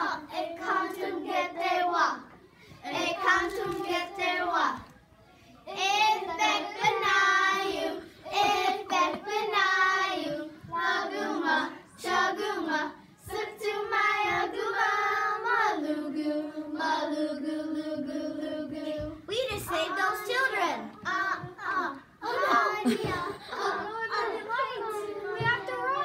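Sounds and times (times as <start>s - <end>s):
girls singing together: 0.0s - 4.9s, 5.7s - 26.0s.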